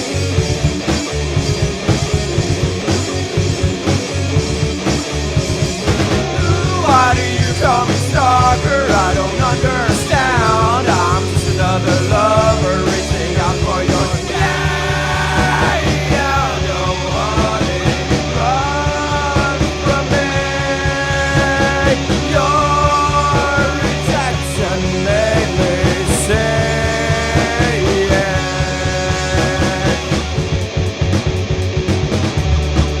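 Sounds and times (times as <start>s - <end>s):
rock song: 0.0s - 33.0s.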